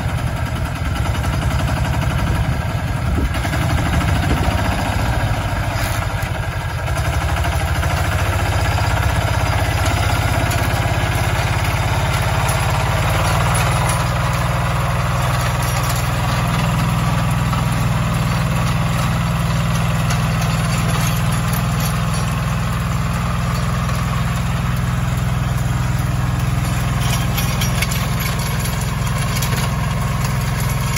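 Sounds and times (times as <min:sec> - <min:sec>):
rotary tiller churning soil: 0:00.0 - 0:30.9
tractor diesel engine running: 0:00.0 - 0:30.9.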